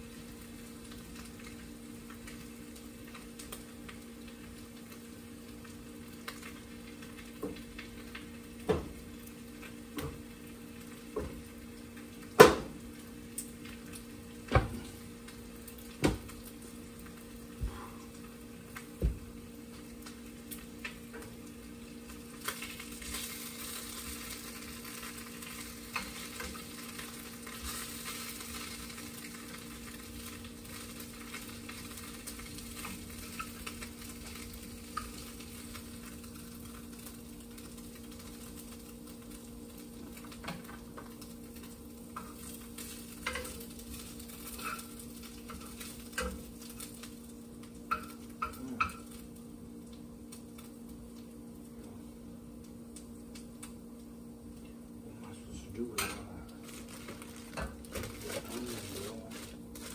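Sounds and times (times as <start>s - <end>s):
food sizzling in frying pan: 0.0s - 59.9s.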